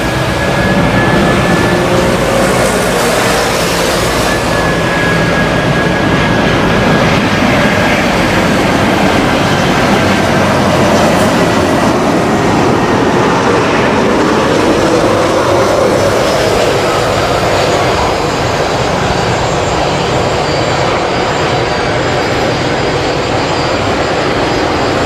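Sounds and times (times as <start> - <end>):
faint high engine whine: 0.0 - 25.0
jet engines roaring: 0.0 - 25.0.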